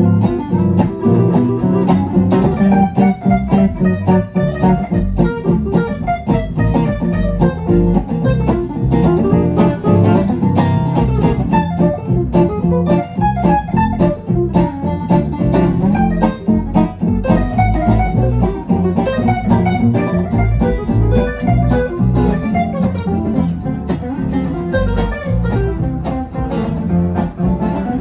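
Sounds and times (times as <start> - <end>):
double bass: 0.0 - 28.0
lead acoustic guitar melody: 0.0 - 28.0
rhythm guitar chords: 0.0 - 28.0.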